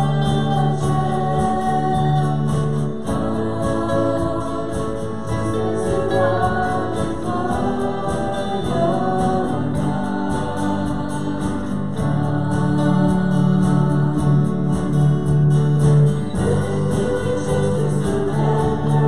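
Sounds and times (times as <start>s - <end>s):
congregation singing a hymn: 0.0s - 19.0s
instrumental accompaniment: 0.0s - 19.0s.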